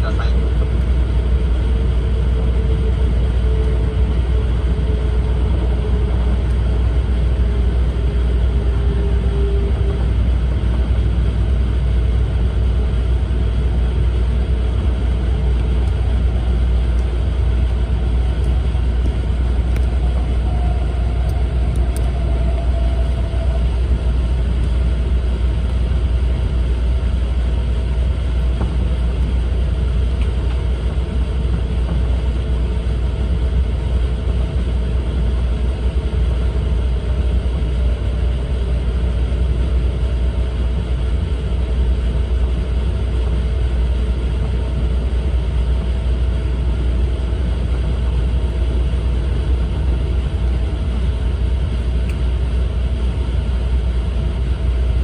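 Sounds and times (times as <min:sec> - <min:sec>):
train interior rumble: 0:00.0 - 0:55.0.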